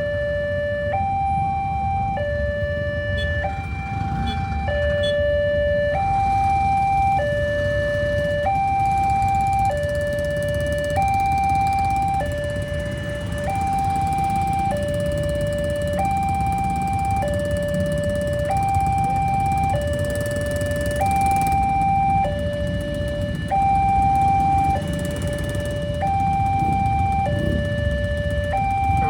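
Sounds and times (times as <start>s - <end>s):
two-tone crossing siren: 0.0s - 29.0s.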